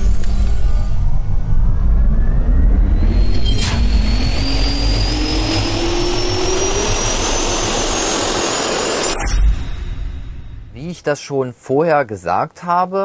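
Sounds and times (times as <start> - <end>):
rising turbine whine: 0.0 - 11.1
short sharp hit: 0.0 - 11.1
jet turbine roar: 0.0 - 11.2.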